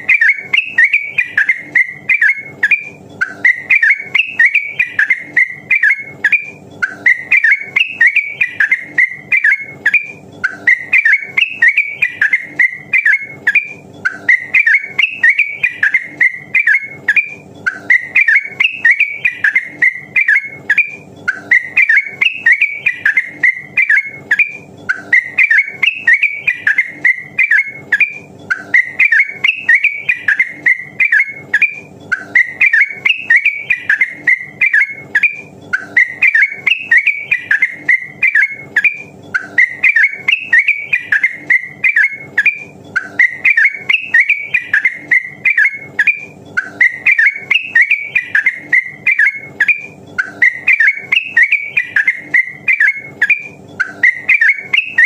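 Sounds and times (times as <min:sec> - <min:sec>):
bulbul singing warbled notes: 0:00.0 - 0:55.0.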